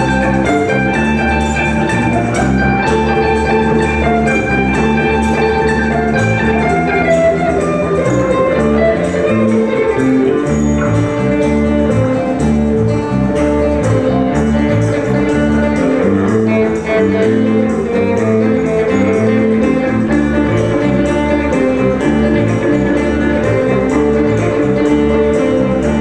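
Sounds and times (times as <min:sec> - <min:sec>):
instrumental music with steady beat: 0:00.0 - 0:26.0.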